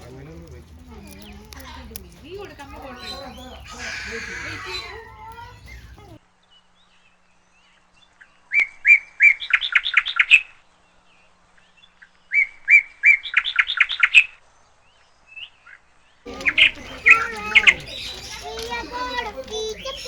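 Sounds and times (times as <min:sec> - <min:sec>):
mix of bird calls: 0:00.0 - 0:20.0.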